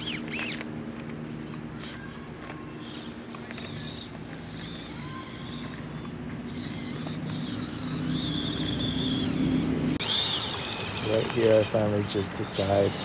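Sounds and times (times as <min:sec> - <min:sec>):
birds chirping: 0:00.0 - 0:13.0
motor hum: 0:00.0 - 0:13.0.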